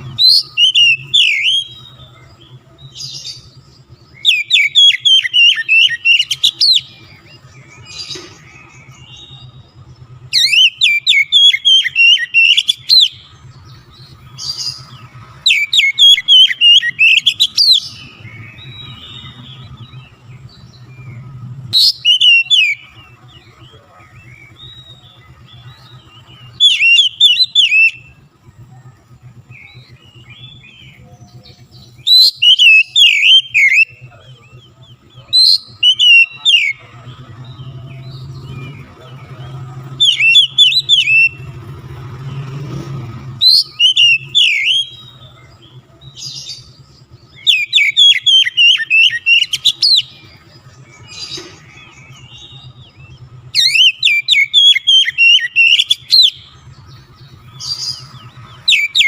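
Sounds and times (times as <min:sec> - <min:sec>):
bird singing whistled phrases: 0:00.0 - 0:09.7, 0:10.3 - 0:13.3, 0:13.9 - 0:28.2, 0:29.5 - 0:41.6, 0:43.4 - 0:59.0.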